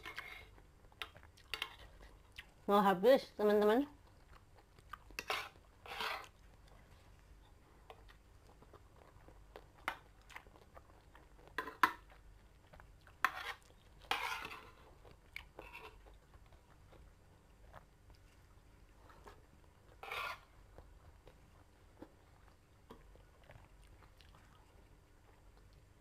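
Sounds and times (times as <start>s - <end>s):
quiet chewing: 0.0s - 2.7s, 3.9s - 26.0s.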